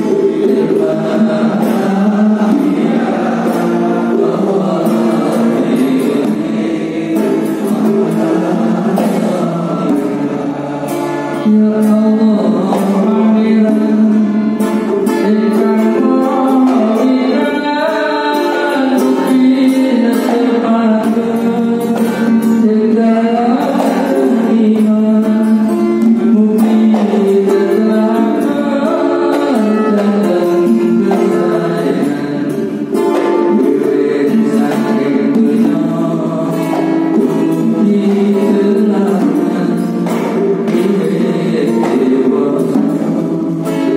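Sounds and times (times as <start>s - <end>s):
group singing in unison: 0.0s - 43.9s
strummed acoustic guitars: 0.0s - 43.9s.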